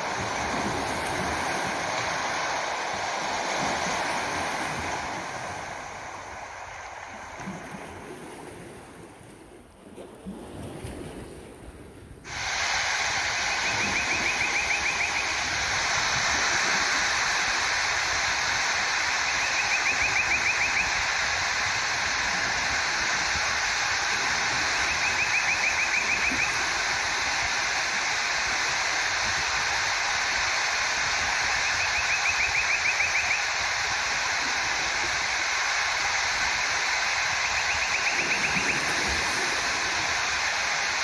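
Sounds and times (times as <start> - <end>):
loud rush of flowing water: 0.0 - 9.3, 12.2 - 41.0
soft water noise: 0.0 - 41.0.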